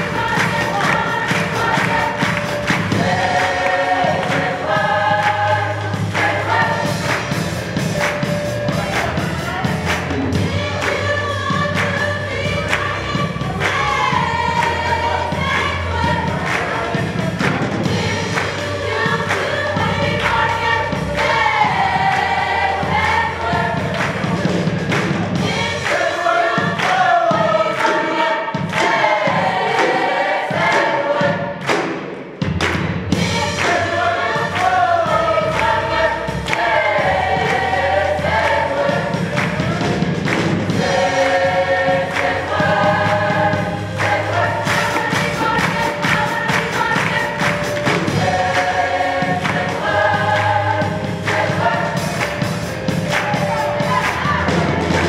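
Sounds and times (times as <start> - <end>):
choir singing in harmony: 0.0 - 55.0
keyboard accompaniment: 0.0 - 55.0.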